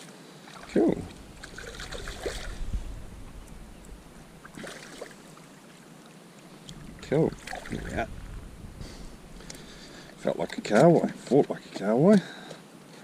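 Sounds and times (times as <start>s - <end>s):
light water splashes: 0.4s - 11.6s.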